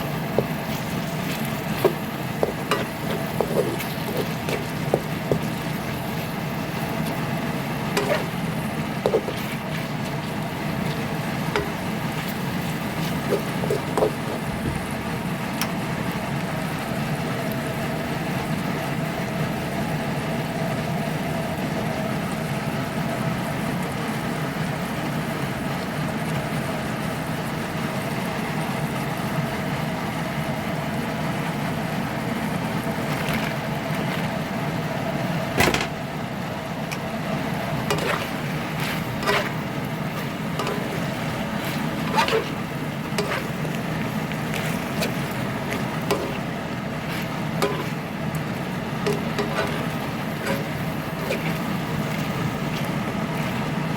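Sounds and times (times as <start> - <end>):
steady machine hum: 0.0 - 53.9.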